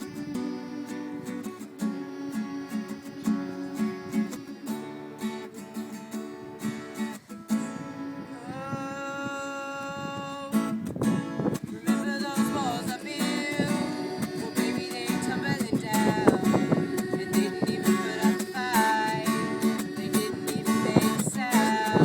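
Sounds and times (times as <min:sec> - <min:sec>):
person singing: 0:00.0 - 0:10.8, 0:11.6 - 0:22.0
acoustic guitar strumming: 0:00.0 - 0:22.0.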